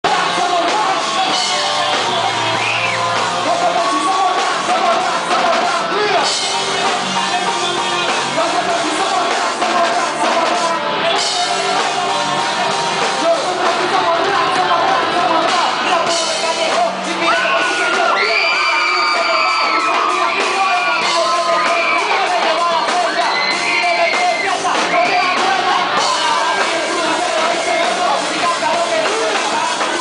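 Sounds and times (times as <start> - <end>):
live band playing: 0.0 - 30.0
rapping through microphones: 3.4 - 30.0.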